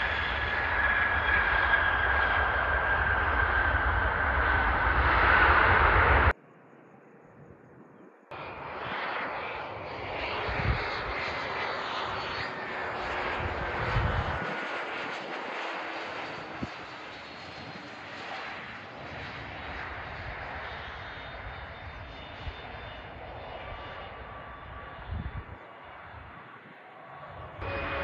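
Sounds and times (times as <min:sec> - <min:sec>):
jet engines landing: 0:00.0 - 0:28.0.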